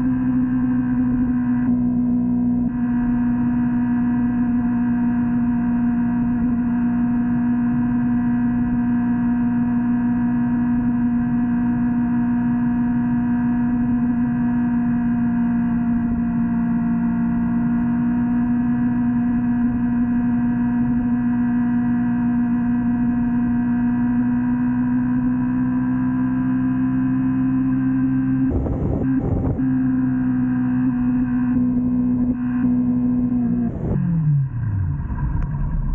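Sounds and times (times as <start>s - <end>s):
motorcycle engine drone: 0.0s - 35.9s.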